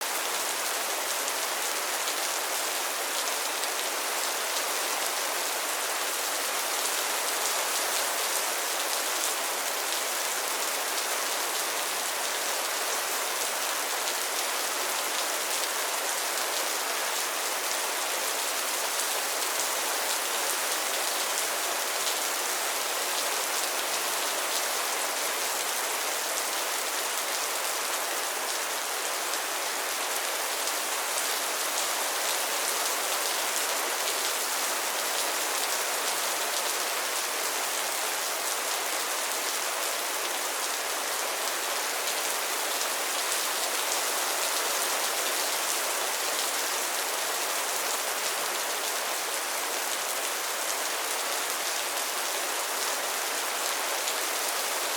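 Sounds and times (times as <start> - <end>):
rain falling on pond water: 0.0 - 54.9.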